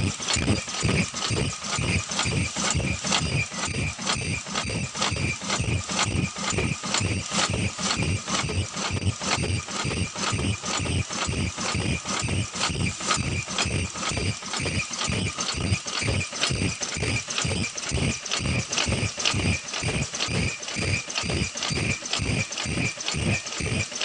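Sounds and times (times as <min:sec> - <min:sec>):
mask making machine knocking: 0:00.0 - 0:24.0.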